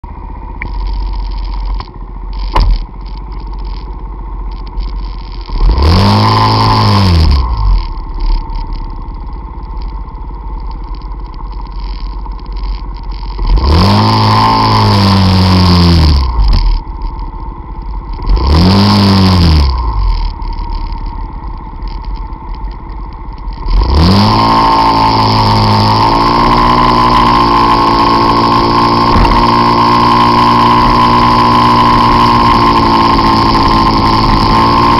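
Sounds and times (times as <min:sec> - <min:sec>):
scooter engine revving: 0:00.6 - 0:34.9.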